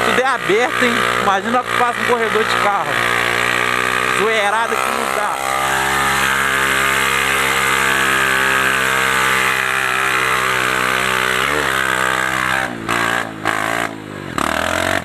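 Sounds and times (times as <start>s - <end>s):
motorcycle engine running loud: 0.0s - 15.0s.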